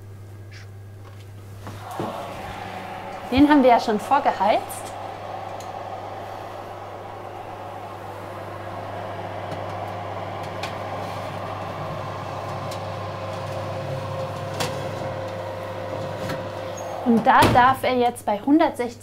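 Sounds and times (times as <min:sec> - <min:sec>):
oven fan humming: 0:00.0 - 0:17.7.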